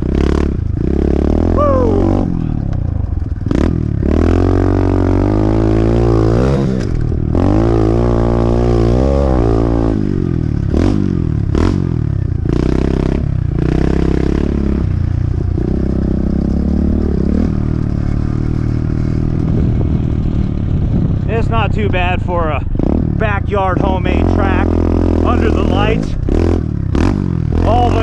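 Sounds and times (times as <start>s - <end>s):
mini bike engine revving: 0.0s - 21.3s, 23.8s - 28.0s.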